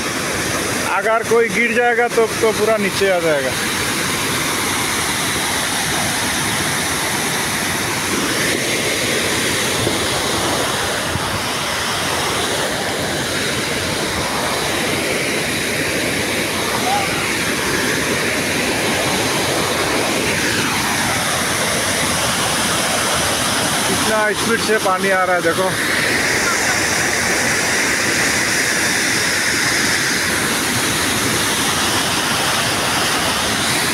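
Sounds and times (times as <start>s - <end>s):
floodwater rushing: 0.0s - 33.9s.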